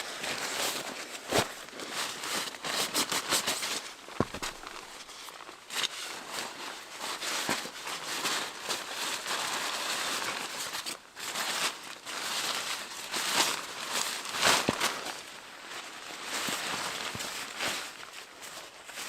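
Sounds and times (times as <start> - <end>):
crinkling handling noise: 0.0 - 19.0.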